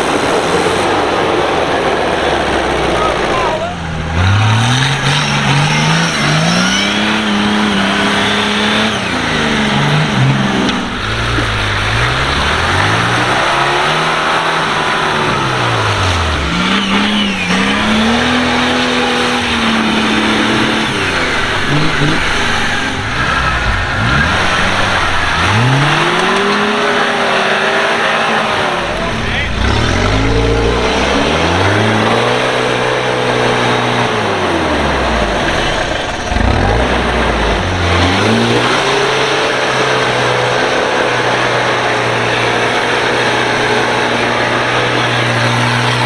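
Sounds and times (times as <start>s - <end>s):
constant rushing noise: 0.0s - 46.0s
engine revving up and down: 0.0s - 46.0s.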